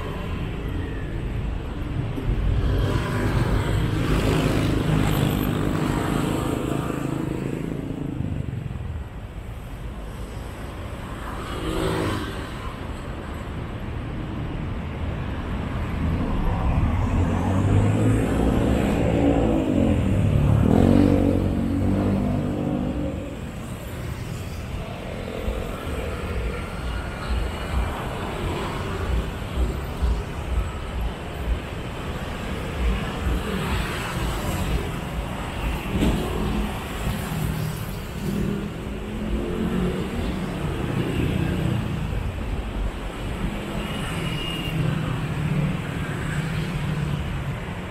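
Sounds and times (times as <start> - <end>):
traffic noise: 0.0 - 47.9.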